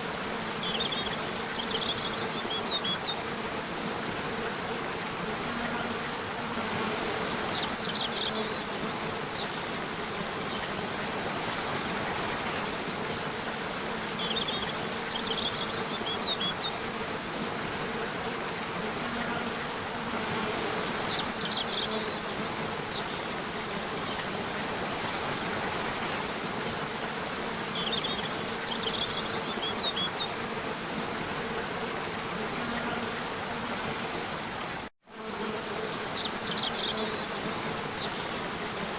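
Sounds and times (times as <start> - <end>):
flowing water rushing: 0.0 - 34.9, 37.2 - 38.9
insect buzzing: 0.0 - 38.9.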